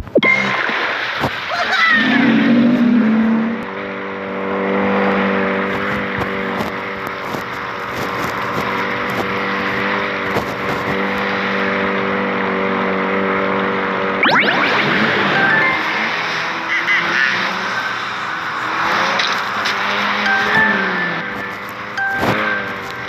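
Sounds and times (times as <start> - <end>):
jet ski engine running: 0.4 - 23.0.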